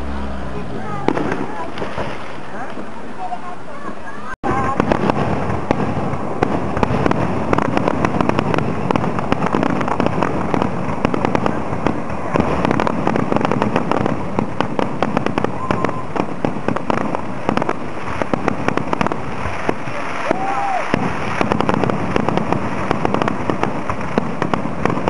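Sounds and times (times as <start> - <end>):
fireworks bangs and crackling: 0.8 - 25.0.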